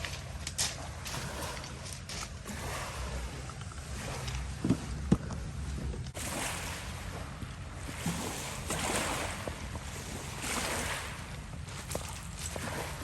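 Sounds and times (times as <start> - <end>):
lake waves washing on shore: 0.0 - 13.0
wind on microphone: 0.0 - 13.0.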